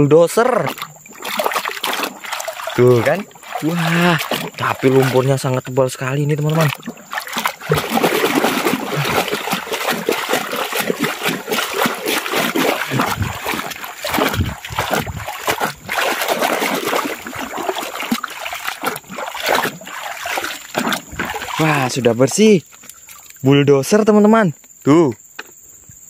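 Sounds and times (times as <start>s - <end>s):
water splashing: 0.0s - 23.6s
running water: 0.0s - 23.9s.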